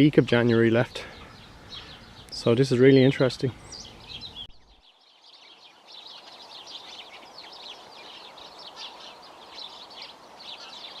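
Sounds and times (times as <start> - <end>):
background hiss: 0.0 - 11.0
small songbirds chirping: 0.0 - 11.0.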